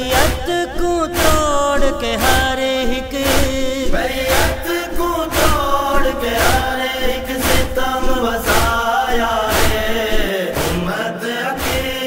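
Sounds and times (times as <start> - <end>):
steady beat: 0.0 - 11.0, 11.6 - 12.0
person chanting lament: 0.0 - 12.0.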